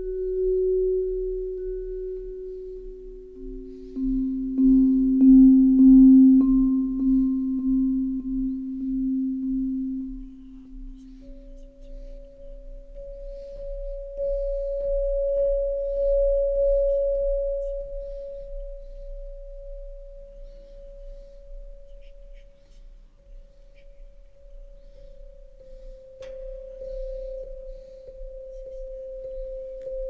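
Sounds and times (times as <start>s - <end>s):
low steady hum: 0.0s - 30.0s
sustained pure ambient tones: 0.0s - 30.0s.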